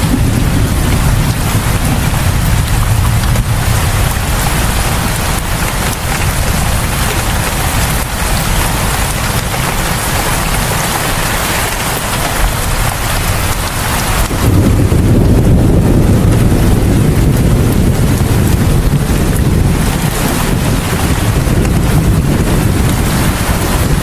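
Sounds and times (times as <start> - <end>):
deep low rumble: 0.0 - 10.9, 12.4 - 24.0
rain hissing: 0.0 - 24.0.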